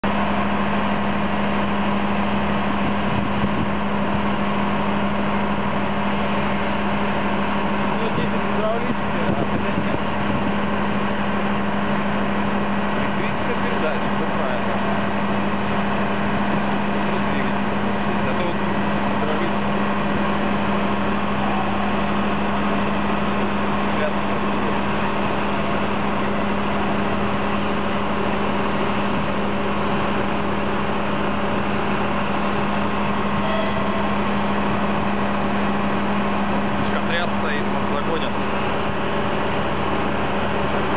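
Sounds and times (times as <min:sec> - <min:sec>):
locomotive engine hum: 0:00.0 - 0:40.9.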